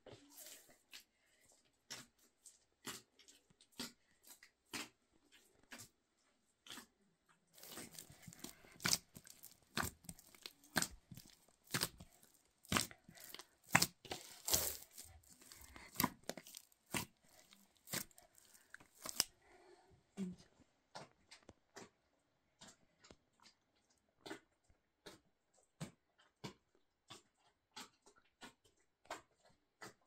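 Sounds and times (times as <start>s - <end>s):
hands kneading bread dough: 0.0s - 30.0s.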